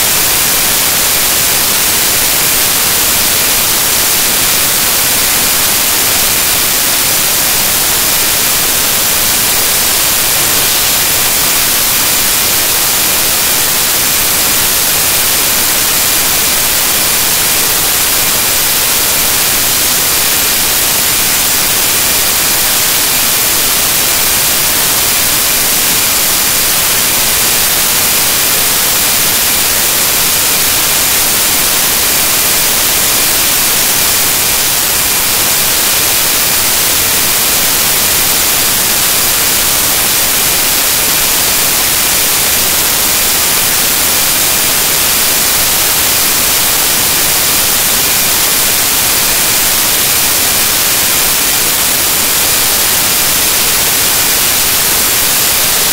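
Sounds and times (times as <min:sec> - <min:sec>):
static hiss: 0:00.0 - 0:55.9.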